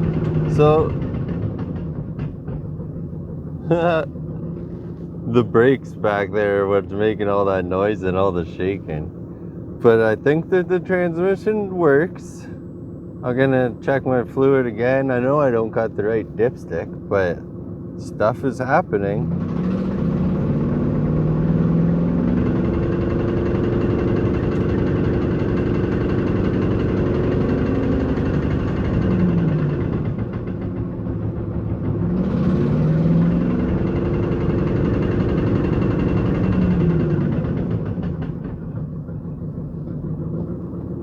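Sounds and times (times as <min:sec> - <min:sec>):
truck engine running: 0:00.0 - 0:41.0.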